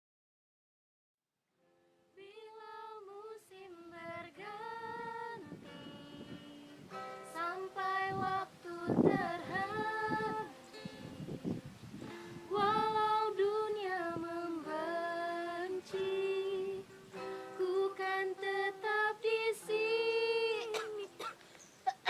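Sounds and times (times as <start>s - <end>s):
woman singing unaccompanied: 2.1s - 21.4s.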